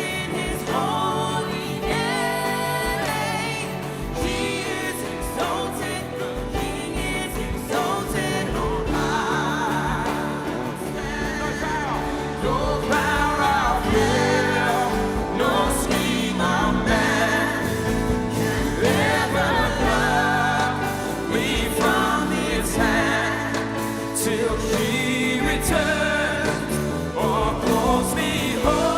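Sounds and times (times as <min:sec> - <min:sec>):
band and singers worship song: 0:00.0 - 0:28.9
keyboard and bass: 0:00.0 - 0:28.9.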